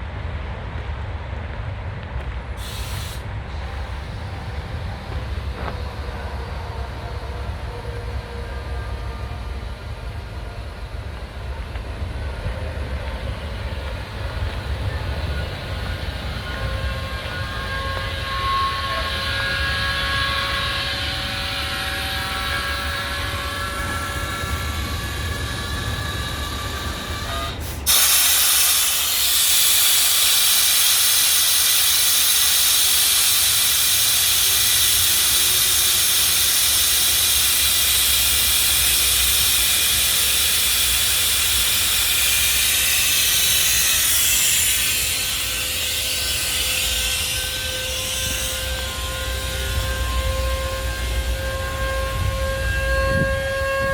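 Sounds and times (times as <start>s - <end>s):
diesel truck engine rumbling: 2.4s - 53.2s
loud steady hiss: 2.6s - 52.5s.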